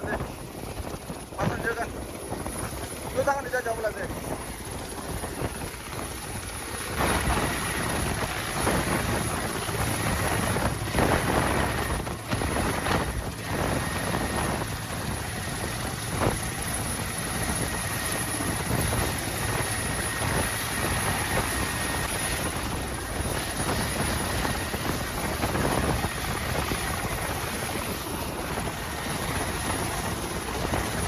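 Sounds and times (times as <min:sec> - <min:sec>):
helicopter rotor and engine: 0:00.0 - 0:31.0.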